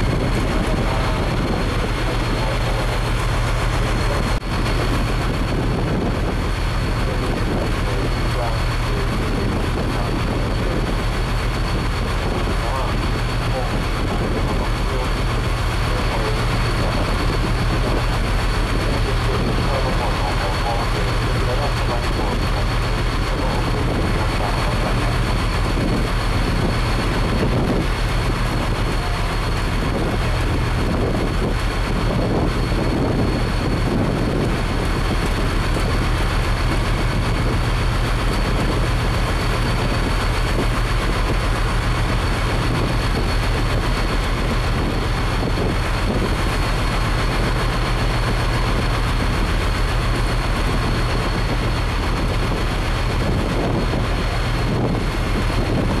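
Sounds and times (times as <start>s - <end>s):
boat engines droning: 0.0s - 56.0s
wind noise on microphone: 0.0s - 56.0s.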